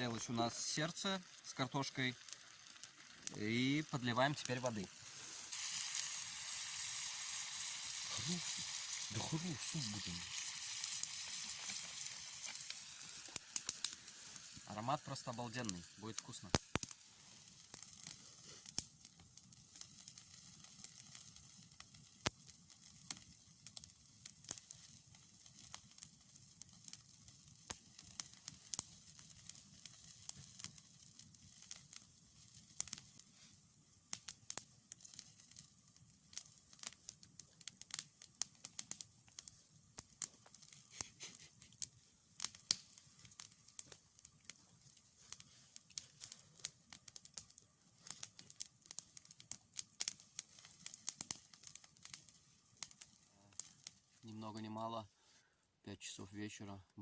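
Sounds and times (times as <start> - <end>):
wood fire crackling and popping: 0.0 - 55.1.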